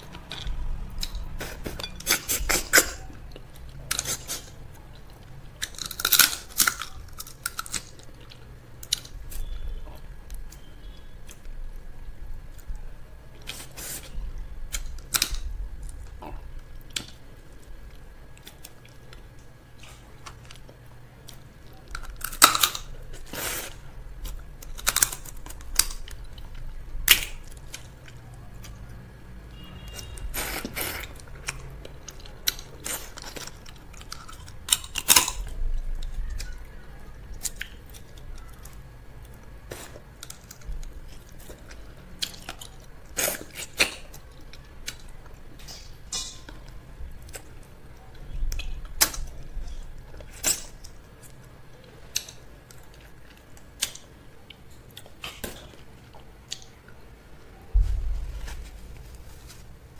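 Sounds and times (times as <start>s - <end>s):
chewing and crunching: 0.0s - 12.7s, 13.3s - 29.0s, 29.8s - 57.1s.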